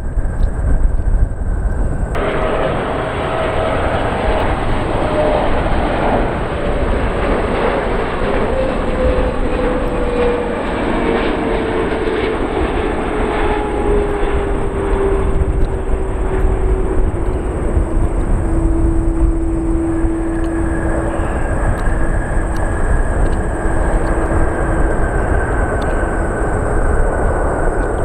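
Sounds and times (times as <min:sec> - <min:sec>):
jet engine whine falling: 0:00.0 - 0:28.0
jet engines roaring: 0:00.0 - 0:28.0.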